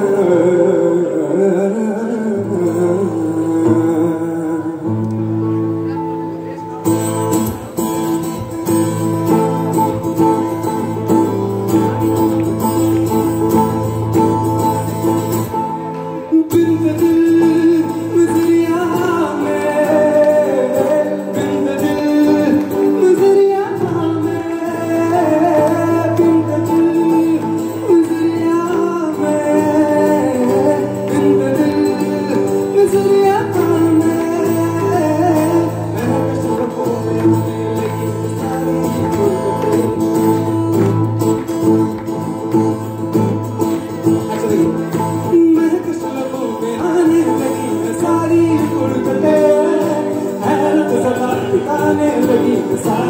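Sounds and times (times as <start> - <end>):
man singing into a microphone: 0.0 - 6.0, 12.9 - 53.0
electric and acoustic guitars: 0.0 - 53.0.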